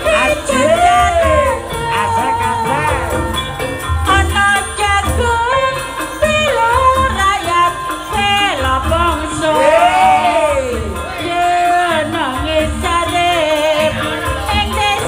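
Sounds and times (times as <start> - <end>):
live dance band: 0.0 - 15.0
person singing wavering melody: 0.0 - 15.0.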